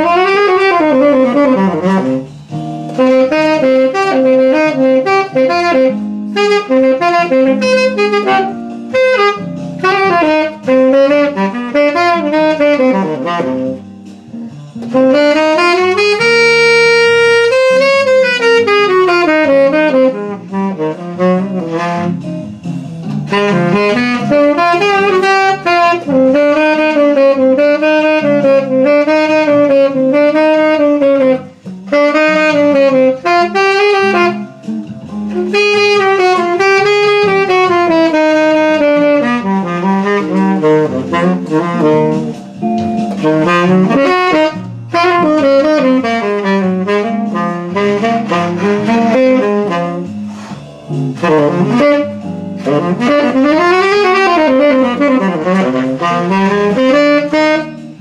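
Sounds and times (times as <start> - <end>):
tenor saxophone jazz playing: 0.0 - 58.0.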